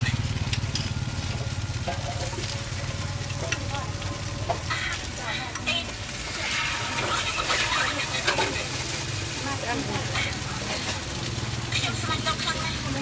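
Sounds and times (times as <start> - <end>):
food sizzling in a pan: 0.0 - 13.0
low steady rumble: 0.0 - 13.0.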